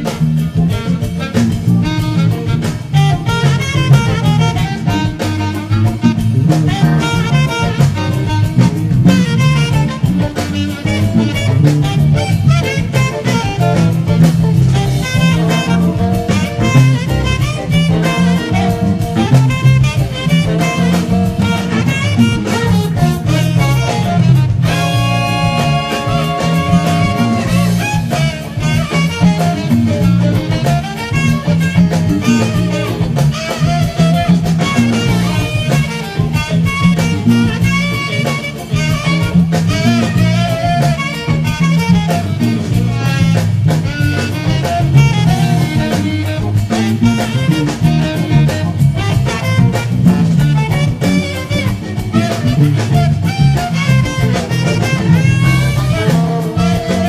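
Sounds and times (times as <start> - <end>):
funk band with drums and horns: 0.0 - 57.0
syncopated electric bass line: 0.0 - 57.0.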